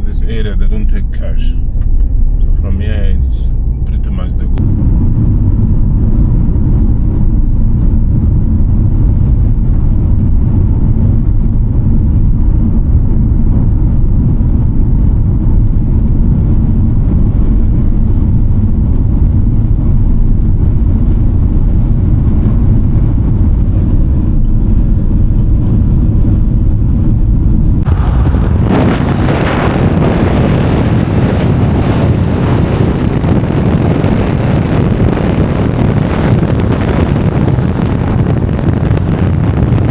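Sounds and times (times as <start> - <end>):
car cabin road and engine drone: 0.0 - 39.9
wind rushing over microphone: 0.0 - 39.9.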